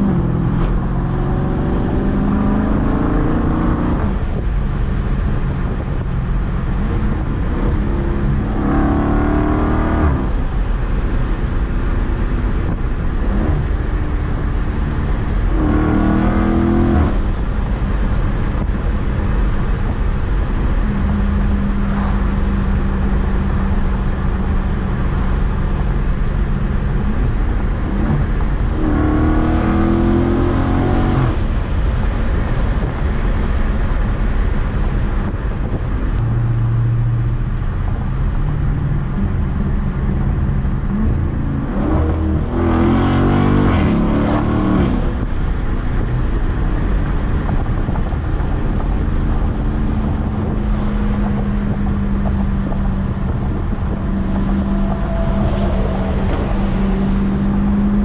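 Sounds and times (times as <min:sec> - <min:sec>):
car engine and loud exhaust: 0:00.0 - 0:58.0
road noise: 0:00.0 - 0:58.0.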